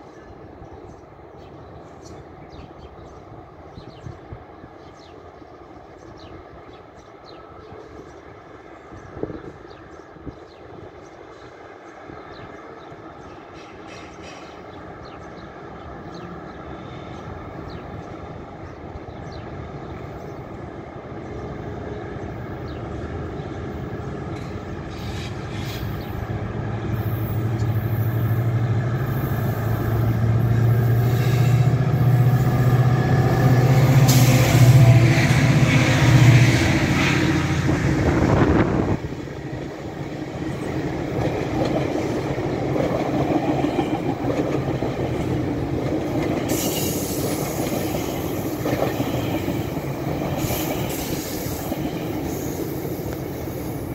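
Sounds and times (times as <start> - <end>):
diesel locomotive engines droning: 0.0 - 53.9
train cars rolling on rails: 4.4 - 53.9.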